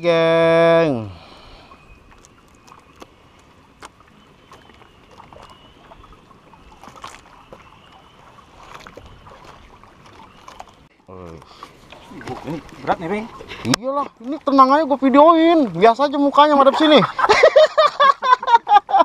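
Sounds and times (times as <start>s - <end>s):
water lapping against boat hull: 1.2s - 18.5s.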